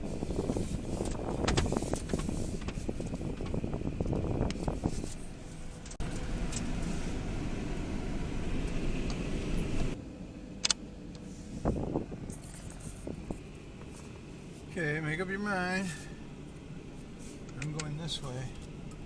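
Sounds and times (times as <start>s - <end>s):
van engine rumble: 0.0s - 19.0s.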